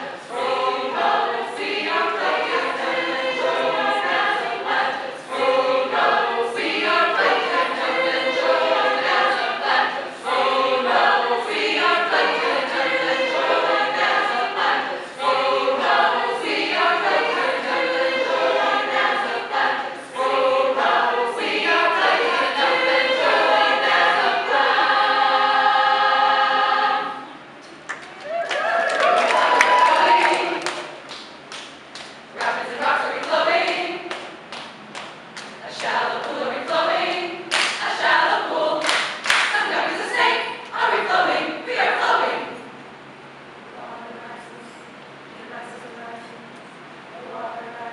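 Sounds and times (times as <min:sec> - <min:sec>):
choir singing unaccompanied: 0:00.0 - 0:27.5, 0:28.9 - 0:31.1, 0:32.3 - 0:34.7, 0:35.4 - 0:42.8, 0:47.1 - 0:47.9.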